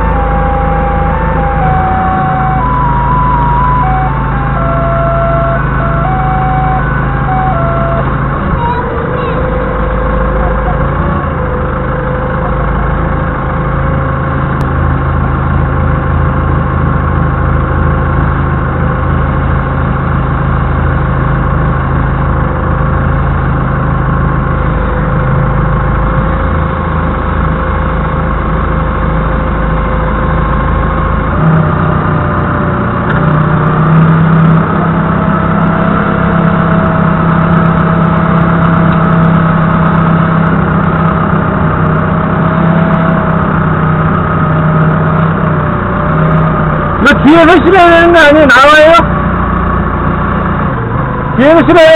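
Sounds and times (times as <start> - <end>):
forklift engine running: 0.0 - 51.9.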